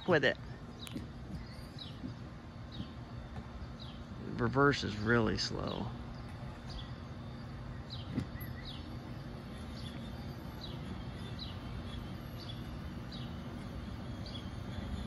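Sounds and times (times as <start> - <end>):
low background hum: 0.0 - 15.0
bird chirping: 0.5 - 15.0.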